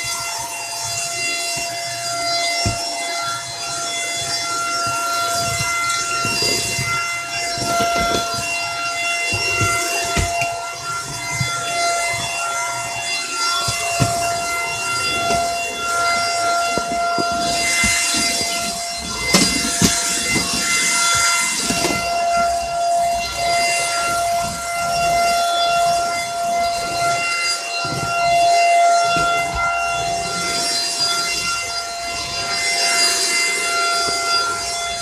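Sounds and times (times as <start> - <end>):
vacuum motor whine: 0.0 - 35.0.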